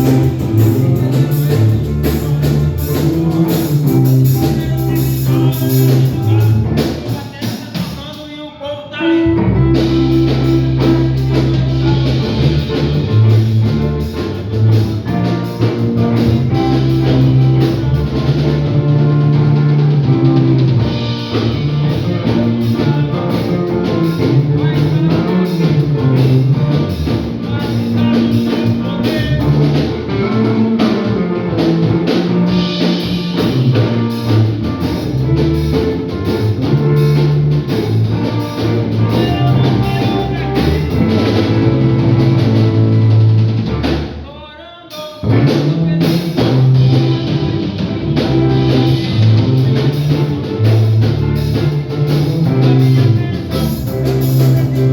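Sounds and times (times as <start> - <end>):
rock band playing: 0.0 - 44.3, 45.0 - 54.9.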